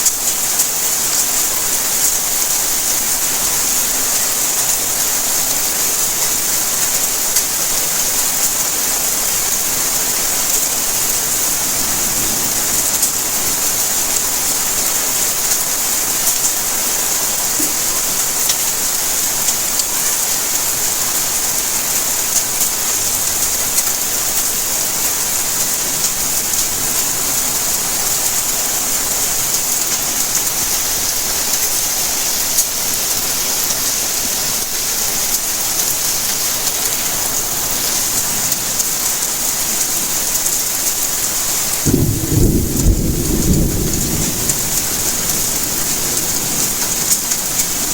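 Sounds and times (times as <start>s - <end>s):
rain drops ticking on surfaces: 0.0s - 47.9s
steady rain falling: 0.0s - 47.9s.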